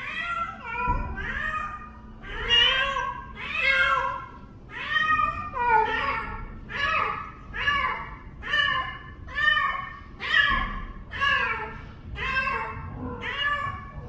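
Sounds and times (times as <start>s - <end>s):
cat meowing: 0.0s - 14.0s.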